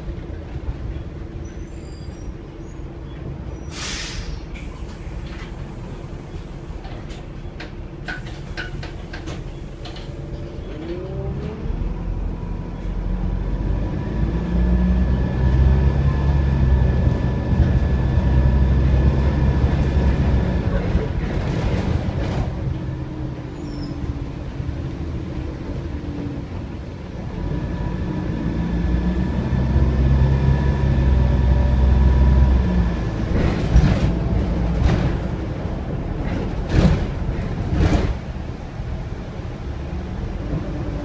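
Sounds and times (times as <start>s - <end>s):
bus diesel engine drone: 0.0s - 41.0s.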